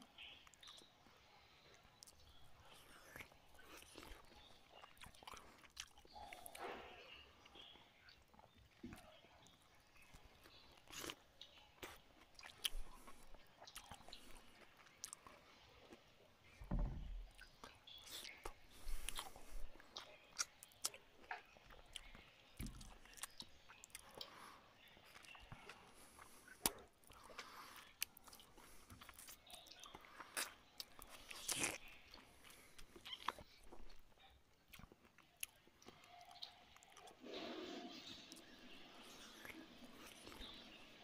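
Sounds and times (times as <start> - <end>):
wet chewing: 0.0 - 16.6, 17.3 - 37.2, 38.3 - 40.8.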